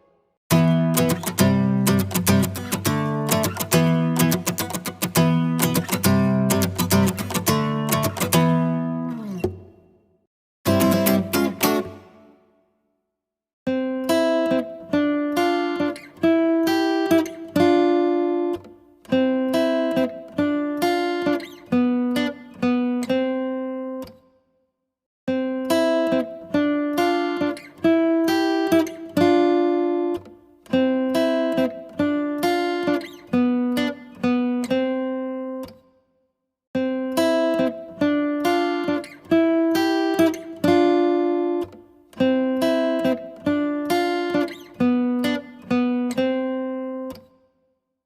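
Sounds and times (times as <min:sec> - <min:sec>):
plucked acoustic guitar melody: 0:00.0 - 0:09.9, 0:10.7 - 0:12.4, 0:13.7 - 0:24.2, 0:25.3 - 0:35.8, 0:36.8 - 0:47.4.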